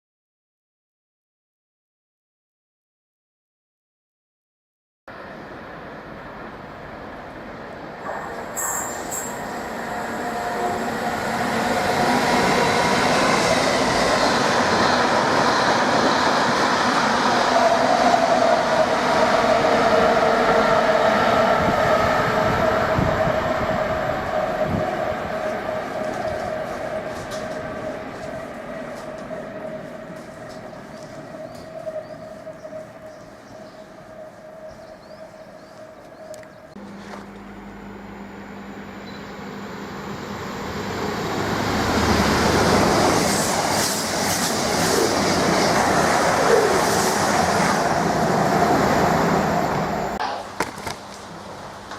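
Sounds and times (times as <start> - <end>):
freight train rumbling past: 5.1 - 36.8, 37.4 - 50.5.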